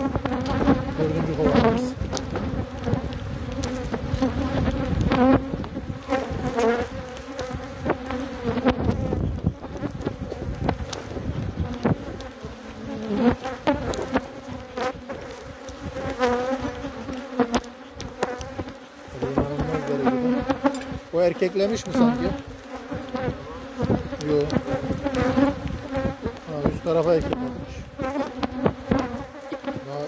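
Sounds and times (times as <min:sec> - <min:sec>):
bees buzzing past: 0:00.0 - 0:30.0
steady hum of bee colony: 0:00.0 - 0:30.0.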